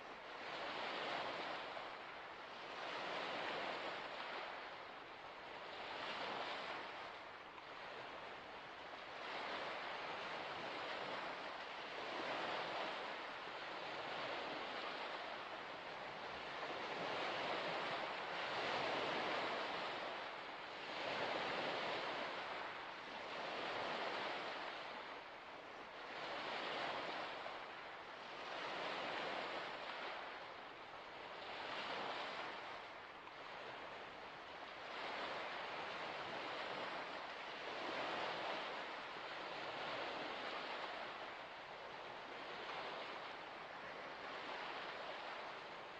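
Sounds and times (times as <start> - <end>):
waves breaking on shore: 0.0 - 45.9.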